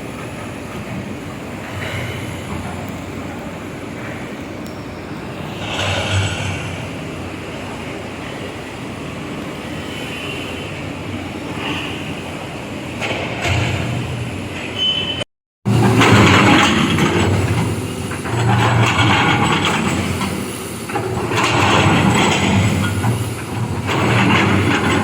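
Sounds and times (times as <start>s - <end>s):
diesel engines running: 0.0s - 14.7s, 15.7s - 25.0s
hydraulic machinery noise: 0.0s - 25.0s.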